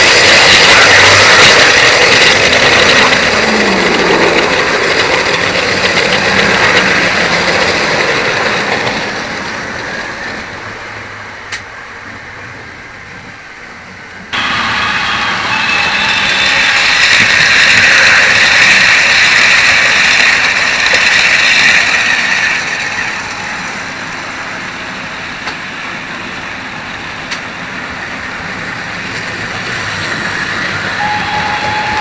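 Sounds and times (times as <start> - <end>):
model train running: 0.0 - 32.0.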